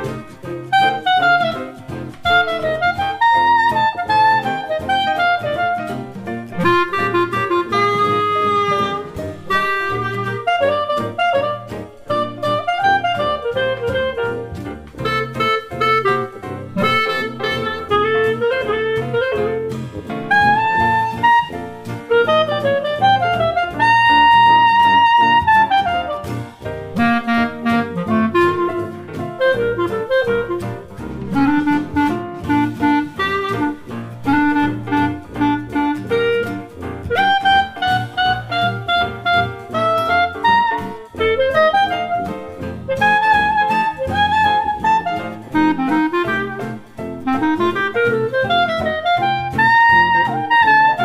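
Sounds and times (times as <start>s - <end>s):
jazz music with saxophone melody: 0.0s - 51.0s.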